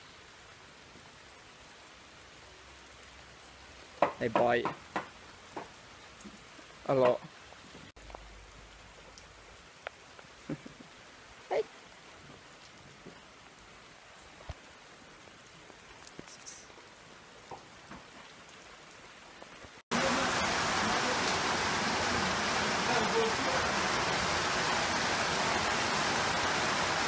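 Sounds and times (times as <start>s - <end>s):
heavy downpour hiss: 0.0s - 27.0s
light rain with drips: 0.0s - 27.0s.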